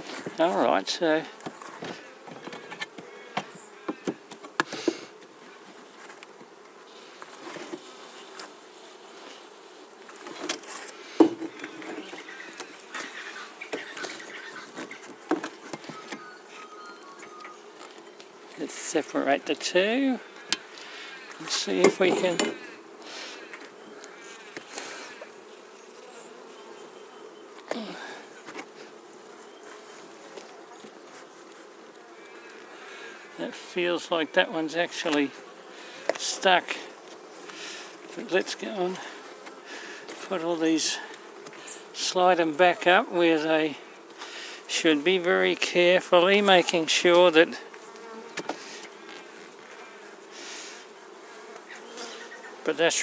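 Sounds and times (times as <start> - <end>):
bees buzzing: 0.0 - 53.0.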